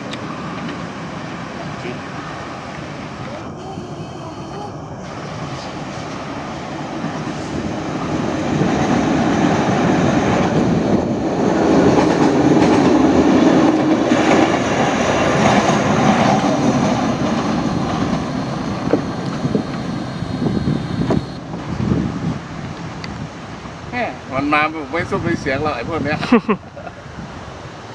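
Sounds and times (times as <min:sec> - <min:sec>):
train passing: 0:00.0 - 0:25.9.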